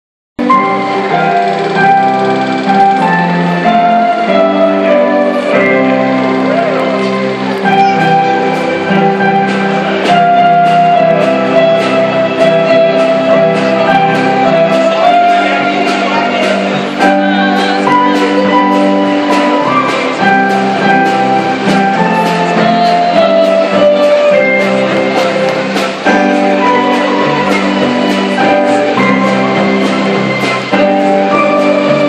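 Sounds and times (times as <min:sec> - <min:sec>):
drum kit: 0:00.4 - 0:32.0
electric guitar: 0:00.4 - 0:32.0
electronic keyboard chords: 0:00.4 - 0:32.0.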